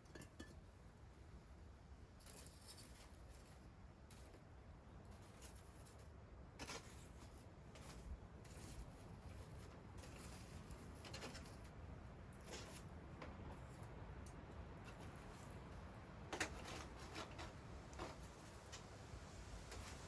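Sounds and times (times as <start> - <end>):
soft scratchy clicks and rustles: 2.2 - 20.0.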